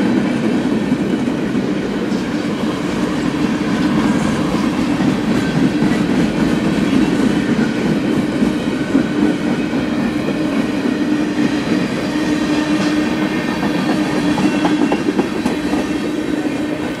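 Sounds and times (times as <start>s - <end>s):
freight train rolling on rails: 0.0s - 17.0s.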